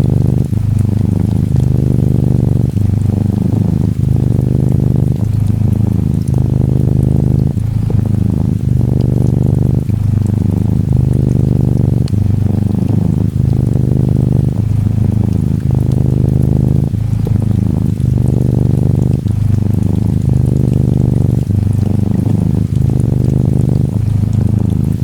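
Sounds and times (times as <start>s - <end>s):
faint rain ticking: 0.0s - 25.0s
kitten purring: 0.0s - 25.0s.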